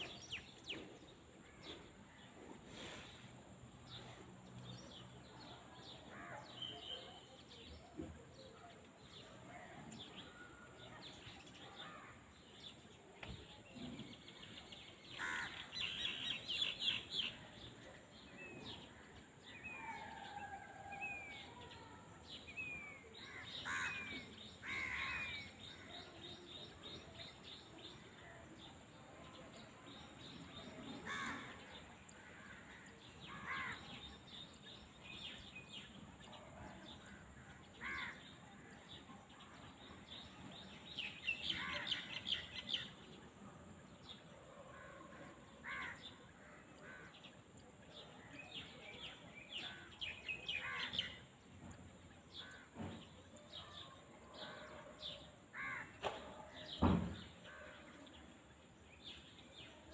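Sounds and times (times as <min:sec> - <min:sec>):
faint rural field ambience: 0:00.0 - 0:59.9.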